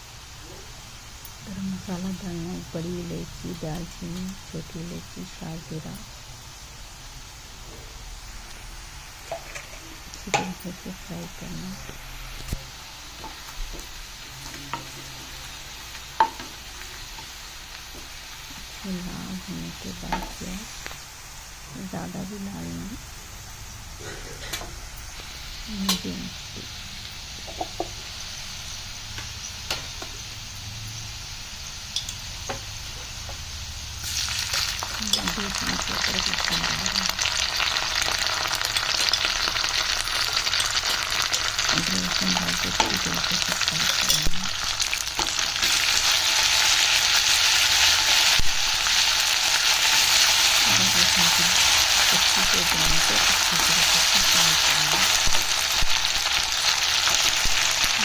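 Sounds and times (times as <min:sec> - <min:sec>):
onions sizzling in hot oil: 0:00.0 - 0:58.0.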